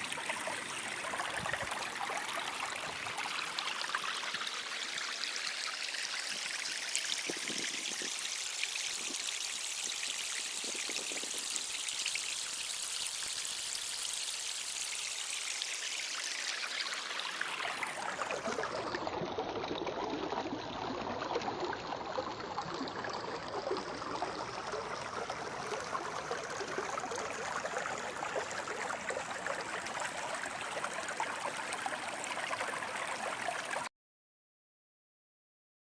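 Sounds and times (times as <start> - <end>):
stream water rushing: 0.0 - 13.4, 14.2 - 33.9.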